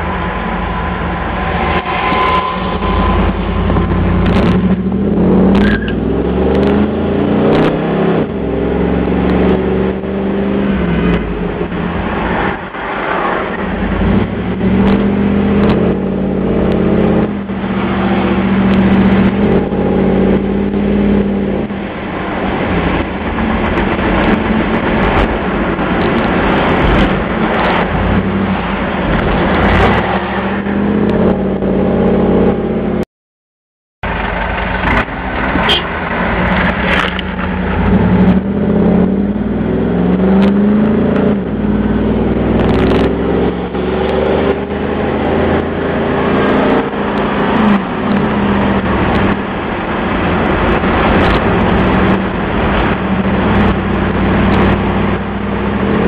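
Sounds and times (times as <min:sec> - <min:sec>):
car engine revving: 0:00.0 - 0:33.0, 0:34.0 - 0:56.0.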